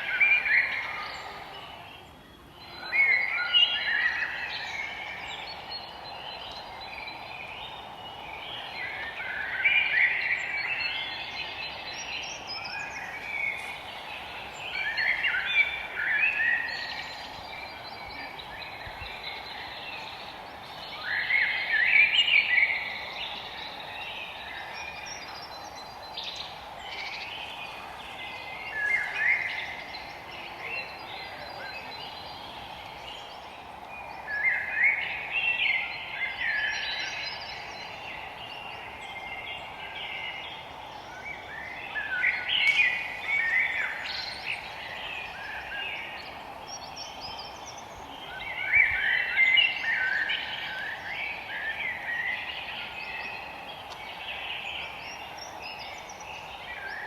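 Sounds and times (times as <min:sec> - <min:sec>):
songbirds singing: 0:00.0 - 0:57.0
steady background hiss: 0:00.0 - 0:57.0.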